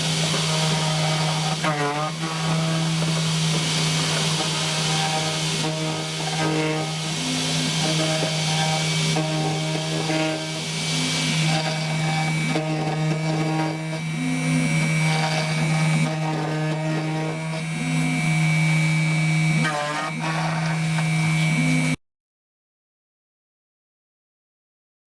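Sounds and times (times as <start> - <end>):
milling machine spindle tone: 0.0 - 22.0
stepper motors whining: 0.0 - 22.0.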